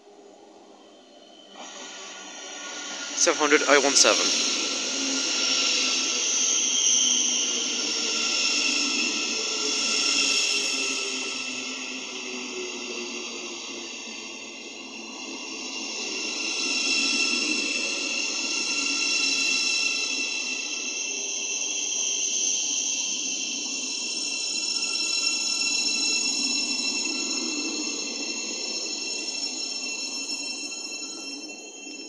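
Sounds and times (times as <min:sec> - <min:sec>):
high-pitched train whine: 0:00.0 - 0:32.0.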